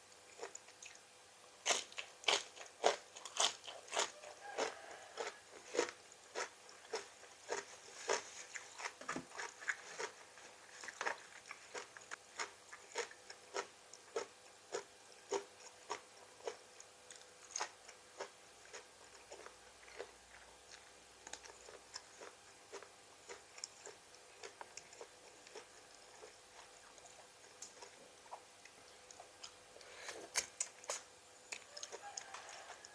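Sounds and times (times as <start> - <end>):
person chewing crunchy vegetables: 0.1 - 32.9.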